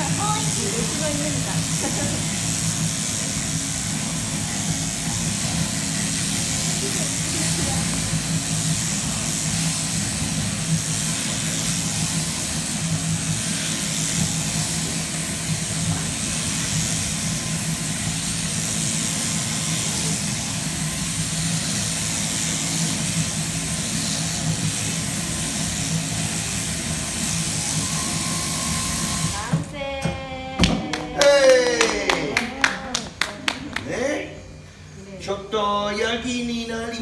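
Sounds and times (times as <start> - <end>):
electric shearing handpiece running: 0.0 - 30.2.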